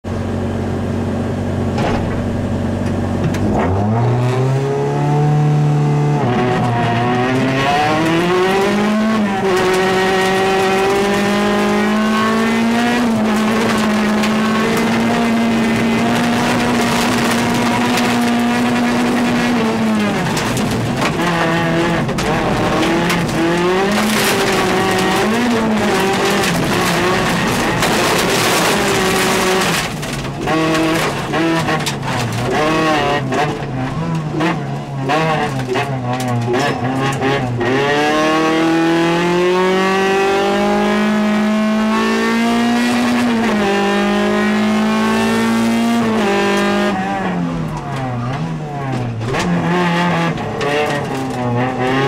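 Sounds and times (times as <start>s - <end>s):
rally car engine revving: 0.1s - 52.0s.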